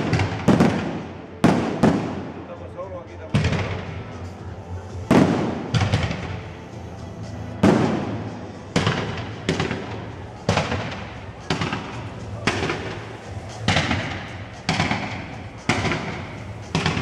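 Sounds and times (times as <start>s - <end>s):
fireworks bursting with echoing rumble: 0.0s - 17.0s.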